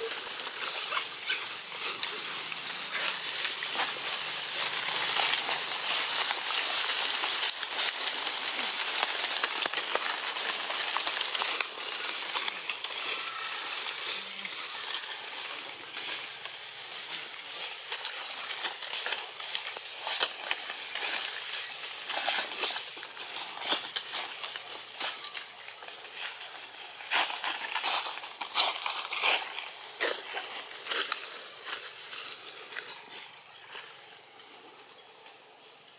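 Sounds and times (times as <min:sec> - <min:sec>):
dense crackling hiss: 0:00.0 - 0:35.9.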